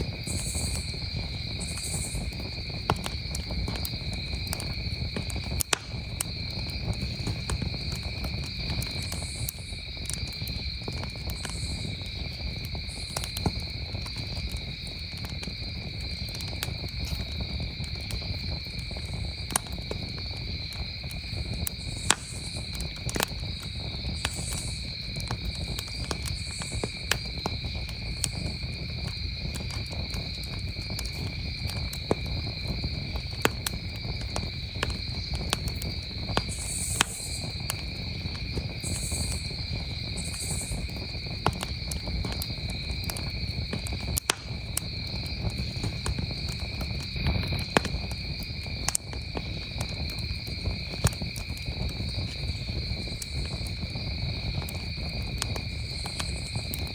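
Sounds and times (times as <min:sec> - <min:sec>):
campfire crackling and popping: 0:00.0 - 0:56.9
crickets chirping: 0:00.0 - 0:56.9.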